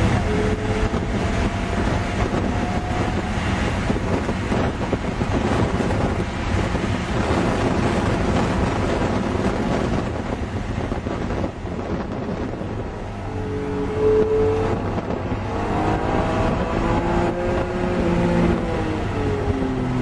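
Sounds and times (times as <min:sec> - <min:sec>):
car engine accelerating: 0:00.0 - 0:20.0
wind noise in car cabin: 0:00.0 - 0:20.0.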